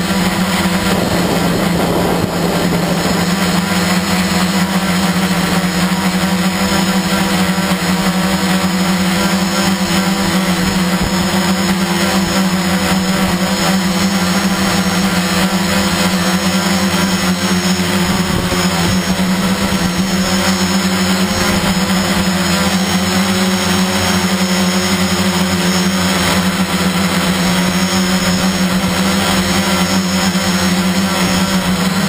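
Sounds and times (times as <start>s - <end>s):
drone motors humming: 0.0s - 32.0s.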